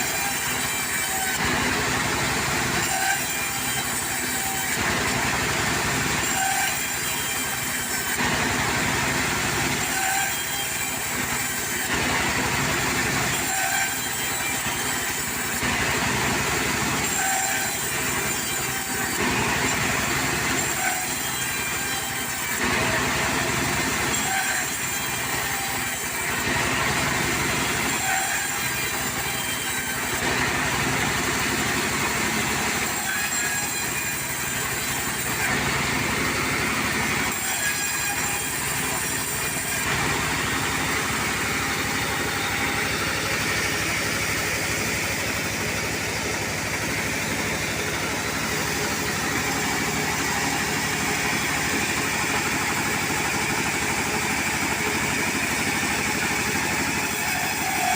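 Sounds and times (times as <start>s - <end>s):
portable sawmill running: 0.0s - 57.9s.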